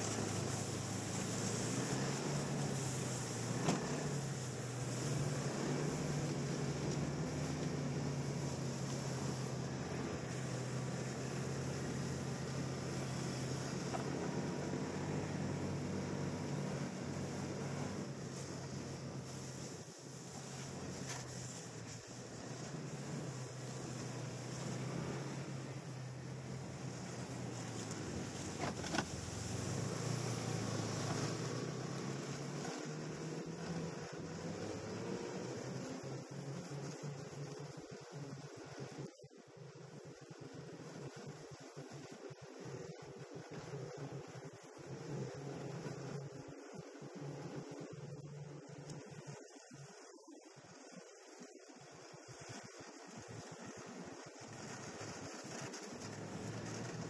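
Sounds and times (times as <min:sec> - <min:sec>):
snowmobile engine running: 0:00.0 - 0:57.0
steady rushing noise: 0:00.0 - 0:57.0.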